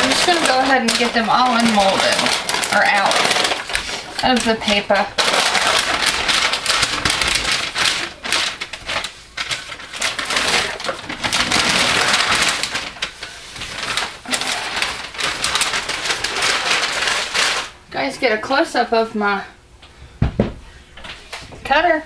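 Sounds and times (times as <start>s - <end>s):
paper crinkling and rustling: 0.0s - 17.8s.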